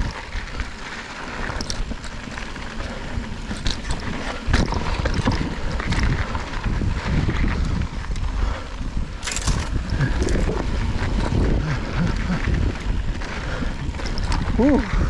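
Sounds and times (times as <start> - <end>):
bike clicks and rattles: 0.0 - 15.0
bike rolling down dirt trail: 0.0 - 15.0
wind buffeting microphone: 0.0 - 15.0.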